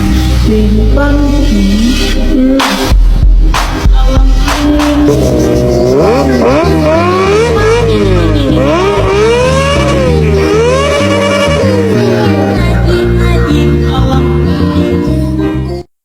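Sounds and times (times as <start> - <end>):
motorcycle engine revving: 0.0 - 14.4
dance music beat with bassline: 0.0 - 15.3.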